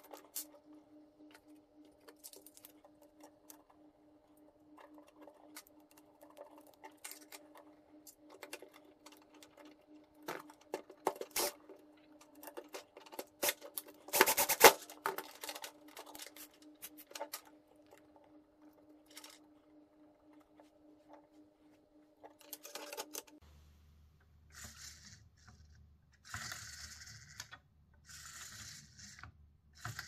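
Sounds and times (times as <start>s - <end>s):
small parts clicking and tapping: 0.0s - 19.5s, 22.2s - 23.4s, 24.5s - 30.0s
faint steady hum: 0.0s - 30.0s.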